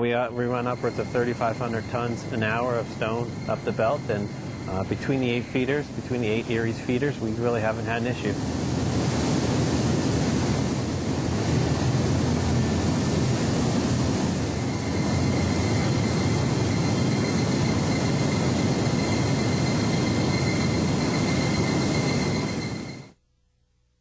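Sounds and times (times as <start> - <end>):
faint high whine: 0.0 - 23.2
stone conveyor belt running: 0.2 - 23.0.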